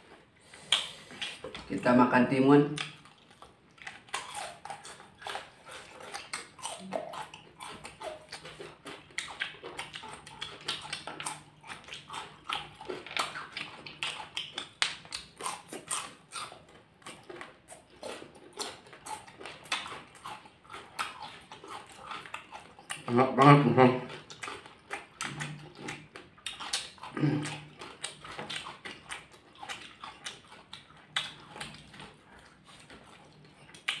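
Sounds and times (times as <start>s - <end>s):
crisp crunching and chewing: 2.6s - 34.0s.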